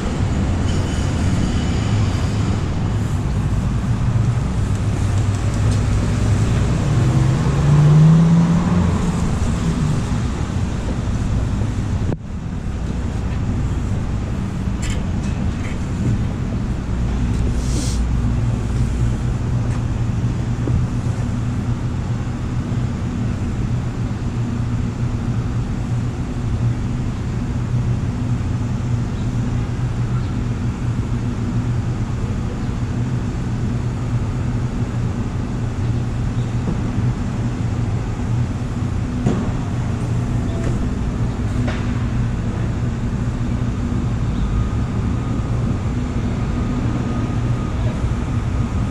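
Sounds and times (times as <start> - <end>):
vehicle rumble and hum: 0.0 - 48.9.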